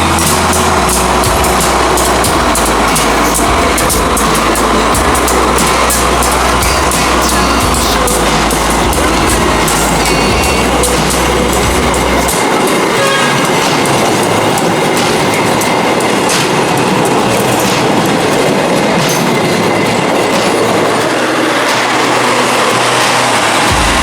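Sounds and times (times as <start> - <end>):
wheels clicking over rail joints: 0.0 - 23.7
train cars rumbling: 0.0 - 24.0.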